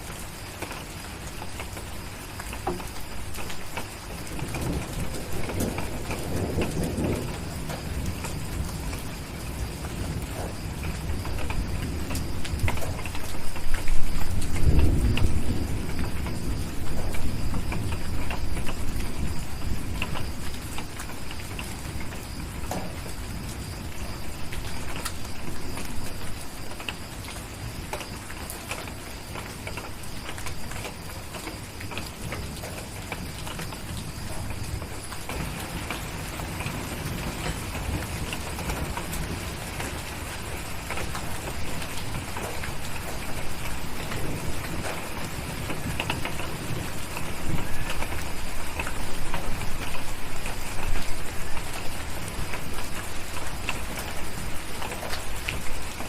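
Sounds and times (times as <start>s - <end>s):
heavy rain on a cabin: 0.0s - 56.0s
distant thunder rumbling: 1.3s - 56.0s.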